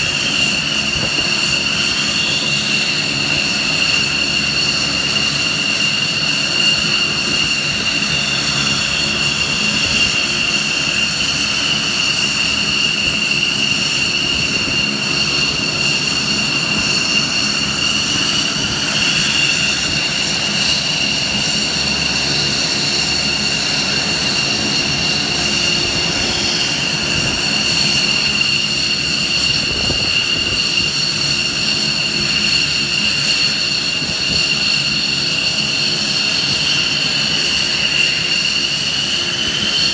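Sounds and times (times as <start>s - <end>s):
turbine engines idling: 0.0s - 39.9s.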